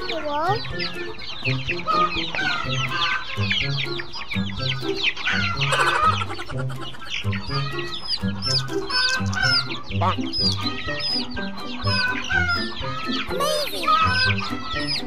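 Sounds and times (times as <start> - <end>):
background music with bass: 0.0 - 15.0
chicks peeping: 0.0 - 15.0.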